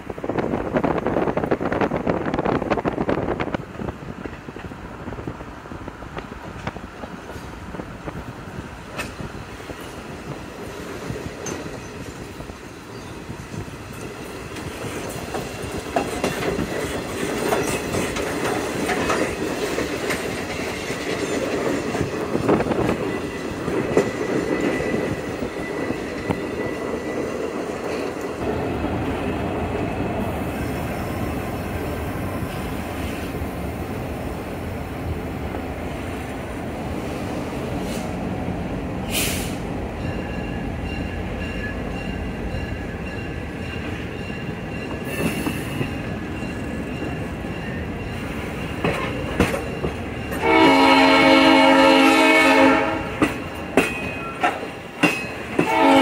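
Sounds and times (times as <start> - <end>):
train wheels clattering on rails: 0.3 - 33.5, 39.0 - 56.0.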